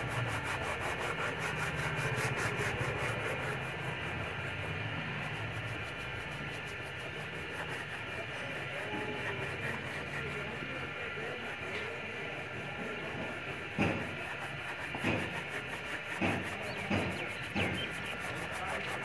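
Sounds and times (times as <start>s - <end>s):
sandpaper rubbing on plastic: 0.0s - 19.0s.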